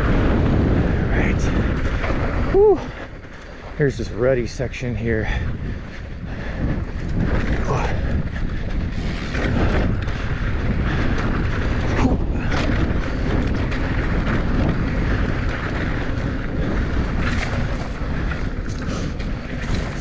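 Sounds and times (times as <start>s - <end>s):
bike rattling and knocking: 0.0s - 20.0s
tyres on dirt: 0.0s - 20.0s
wind rumble on microphone: 0.0s - 20.0s.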